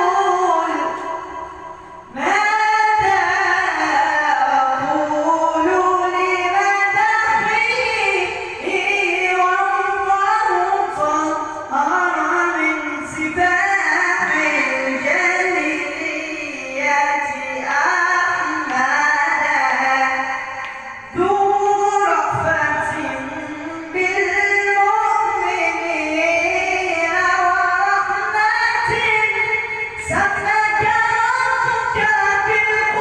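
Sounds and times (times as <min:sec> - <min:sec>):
high voice singing devotional chant: 0:00.0 - 0:33.0.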